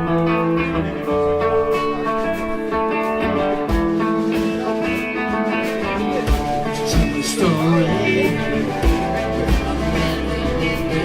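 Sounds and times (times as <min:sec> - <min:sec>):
guitar playing: 0:00.0 - 0:11.0
live band instrumental music: 0:00.0 - 0:11.0.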